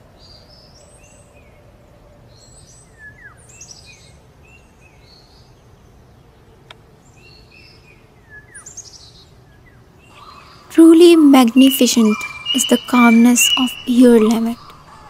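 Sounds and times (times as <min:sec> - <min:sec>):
songbirds chirping: 0:00.0 - 0:15.0
steady background hiss: 0:00.0 - 0:15.0.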